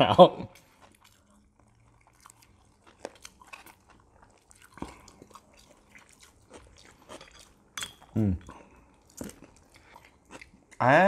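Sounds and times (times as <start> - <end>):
wet mouth clicks and chewing: 0.6 - 10.8.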